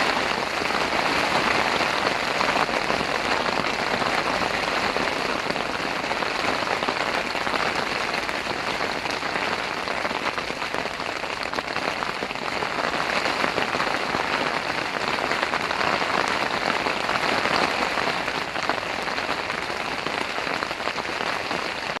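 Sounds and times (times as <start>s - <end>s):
heavy rain on a tent: 0.0s - 22.0s.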